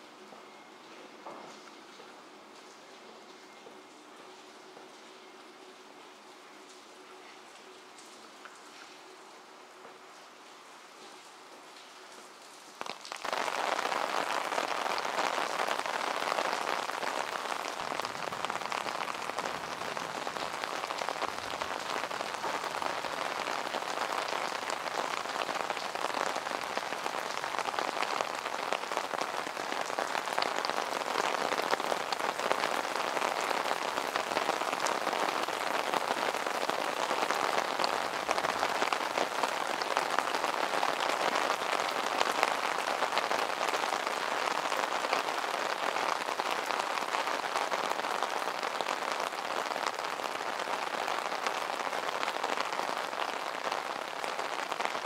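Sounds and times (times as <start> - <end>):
heavy rain on street: 2.5 - 55.0.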